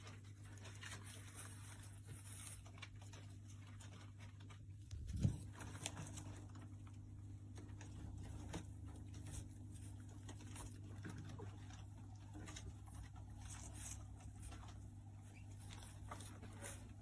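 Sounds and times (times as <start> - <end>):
rat scratching and pattering: 0.0 - 17.0.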